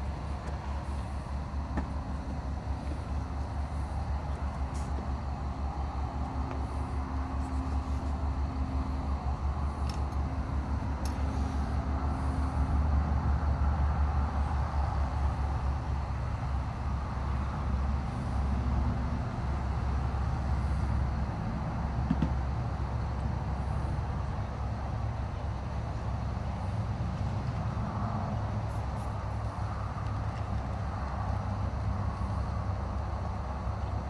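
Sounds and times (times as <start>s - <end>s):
faint hum: 0.0s - 34.0s.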